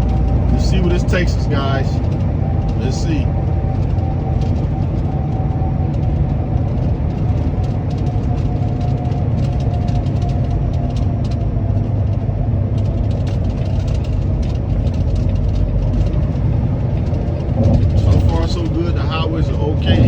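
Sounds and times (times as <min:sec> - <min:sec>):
truck engine and road noise: 0:00.0 - 0:20.0.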